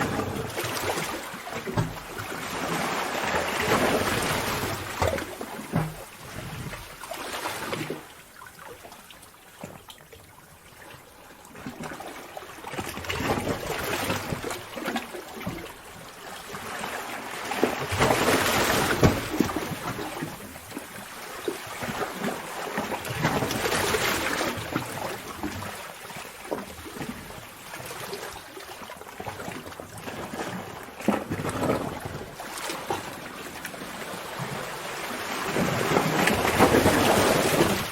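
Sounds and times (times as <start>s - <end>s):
seawater sloshing against rock: 0.0s - 9.9s, 12.7s - 37.9s.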